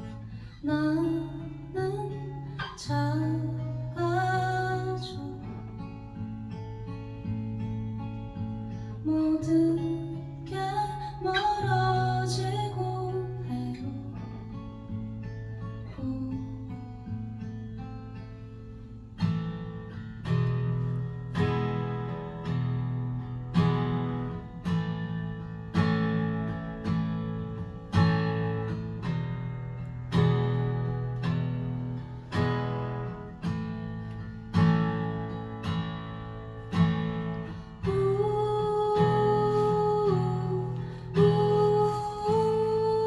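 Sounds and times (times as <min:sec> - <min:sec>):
acoustic guitar strumming chords: 0:00.0 - 0:43.0.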